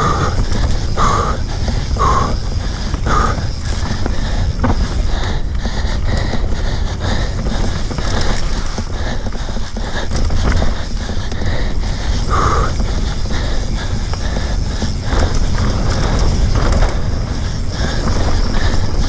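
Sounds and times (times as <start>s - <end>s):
bike frame and chain rattling: 0.0s - 19.0s
rider breathing hard: 0.0s - 19.0s
wind and tyres rumbling: 0.0s - 19.0s.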